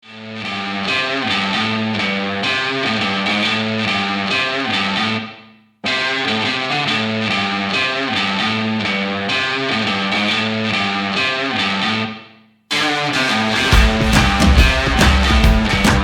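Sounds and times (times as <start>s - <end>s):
rock music with strummed guitar: 0.2s - 16.0s.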